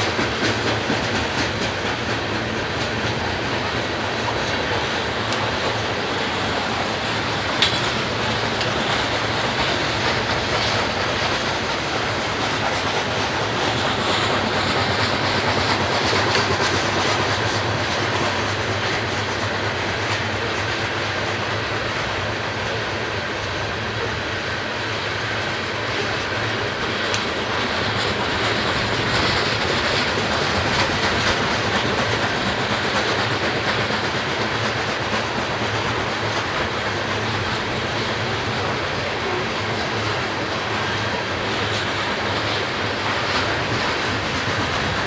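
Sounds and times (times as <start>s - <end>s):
steel wheels on rails: 0.0s - 45.0s.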